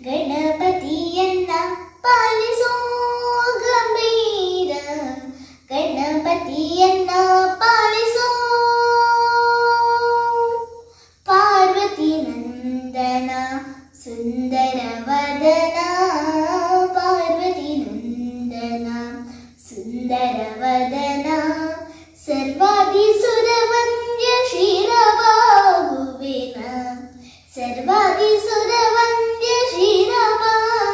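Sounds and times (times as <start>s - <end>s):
girl singing unaccompanied: 0.0s - 30.9s.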